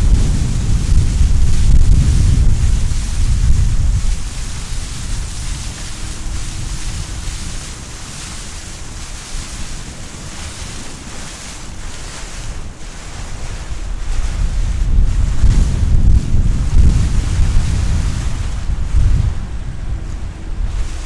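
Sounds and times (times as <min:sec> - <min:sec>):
choppy water washing: 0:00.0 - 0:21.0
wind noise on microphone: 0:00.0 - 0:21.0.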